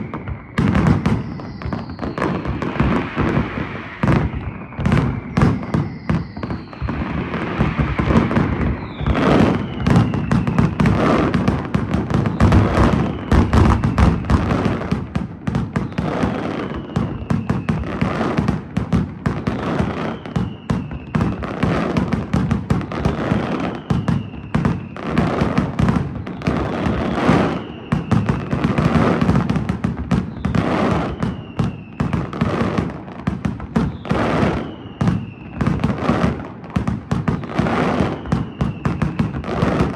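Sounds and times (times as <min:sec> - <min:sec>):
firework whistle falling in pitch: 0:00.0 - 0:18.7, 0:19.4 - 0:29.6, 0:30.2 - 0:33.0, 0:33.8 - 0:36.4, 0:37.2 - 0:39.9
fireworks bangs and crackles: 0:00.0 - 0:39.9.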